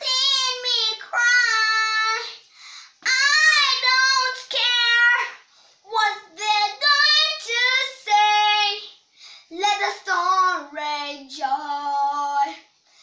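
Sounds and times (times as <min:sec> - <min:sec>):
girl singing: 0:00.0 - 0:12.8.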